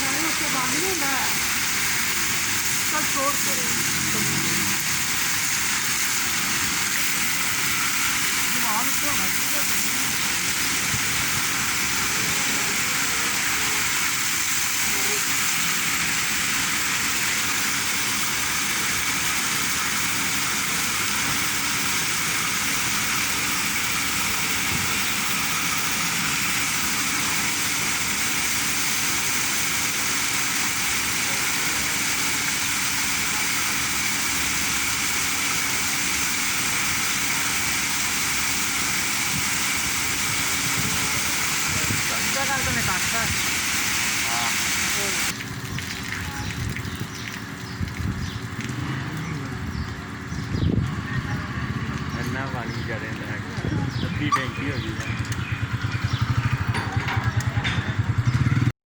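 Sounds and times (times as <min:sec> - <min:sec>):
water rushing: 0:00.0 - 0:50.2.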